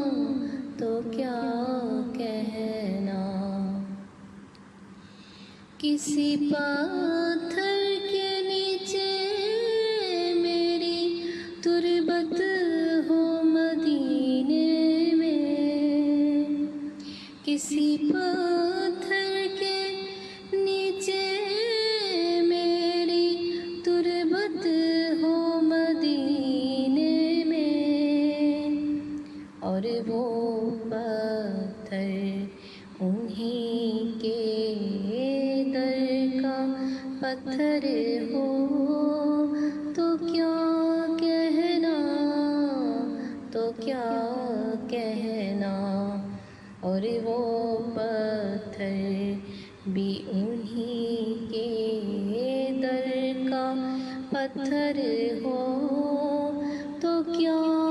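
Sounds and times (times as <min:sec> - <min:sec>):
woman singing long held notes: 0:05.3 - 0:57.9.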